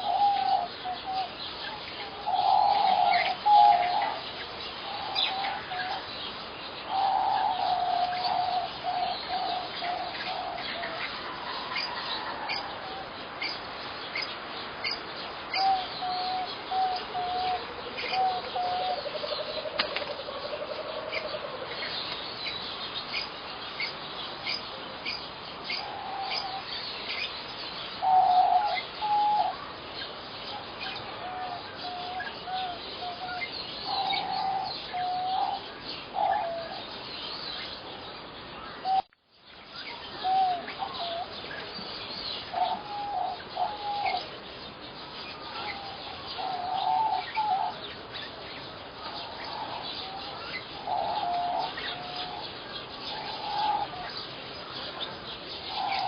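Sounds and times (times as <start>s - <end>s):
birds calling: 0.0s - 56.0s
steady background hiss: 0.0s - 56.0s.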